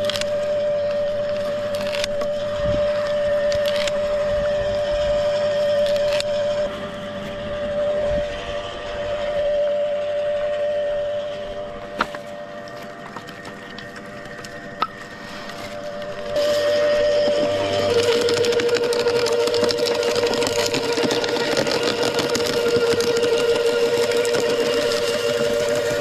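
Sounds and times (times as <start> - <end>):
wood chipper whining: 0.0 - 26.0.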